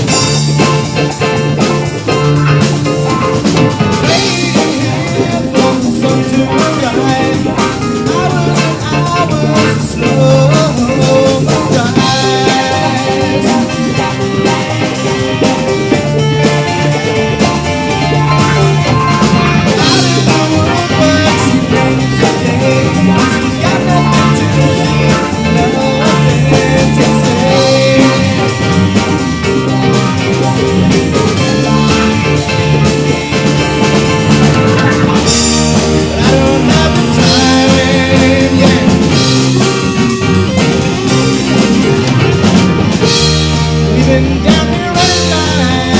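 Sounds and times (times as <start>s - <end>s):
bass guitar: 0.0s - 45.9s
drum kit: 0.0s - 45.9s
electric guitars: 0.0s - 45.9s
keyboard: 0.0s - 45.9s.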